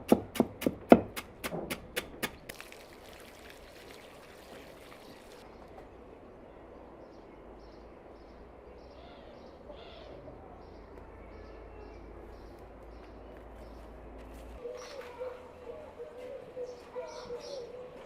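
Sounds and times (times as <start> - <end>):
birds chirping: 3.4 - 18.0.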